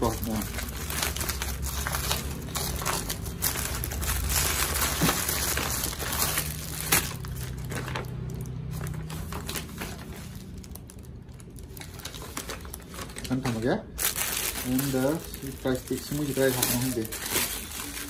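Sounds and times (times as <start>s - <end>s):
envelope and plastic bag crinkling: 0.0s - 18.0s.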